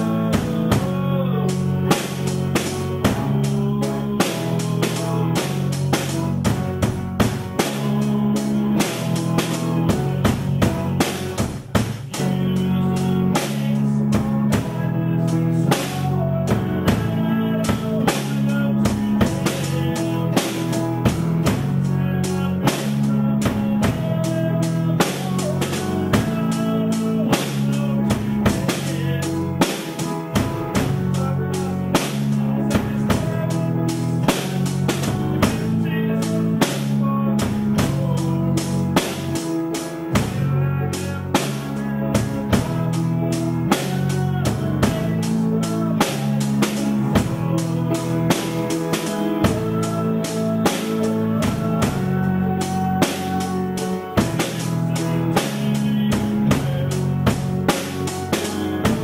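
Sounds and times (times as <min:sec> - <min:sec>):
bass drum beat: 0:00.0 - 0:59.0
guitar: 0:00.0 - 0:59.0
live band playing: 0:00.0 - 0:59.0.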